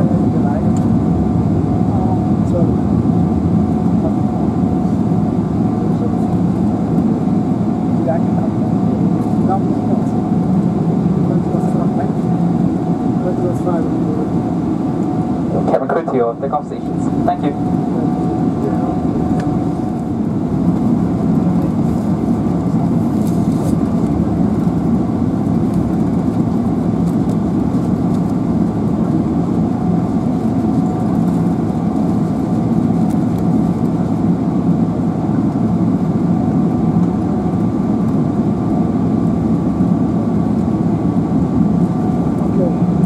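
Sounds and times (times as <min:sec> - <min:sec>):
aircraft cabin low hum: 0:00.0 - 0:43.0
faint engine whine: 0:00.0 - 0:43.0.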